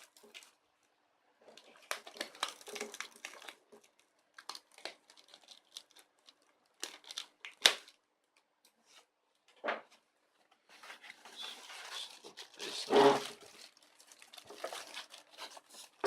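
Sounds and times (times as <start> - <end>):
packaging crinkling and rustling: 0.0 - 9.0, 10.4 - 16.0.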